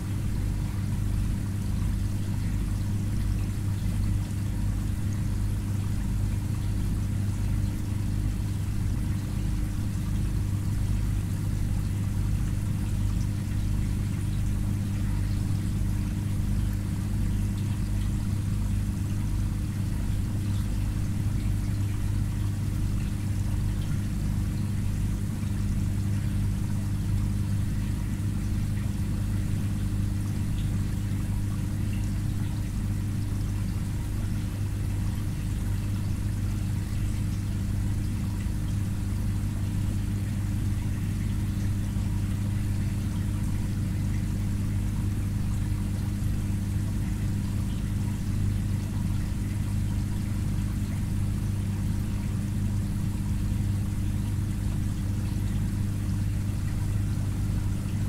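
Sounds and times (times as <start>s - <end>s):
aquarium pump humming: 0.0s - 58.0s
water trickling: 0.0s - 58.0s.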